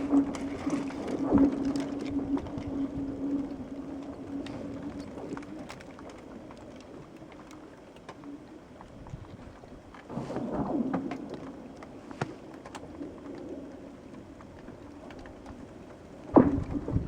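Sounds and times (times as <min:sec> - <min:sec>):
faint ice ticks: 0:00.0 - 0:17.0
lake ice cracking: 0:00.0 - 0:17.0.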